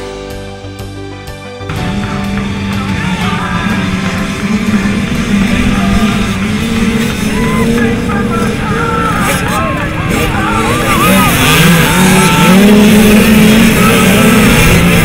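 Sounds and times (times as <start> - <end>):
rock music: 0.0 - 15.0
motocross bikes revving: 1.7 - 15.0.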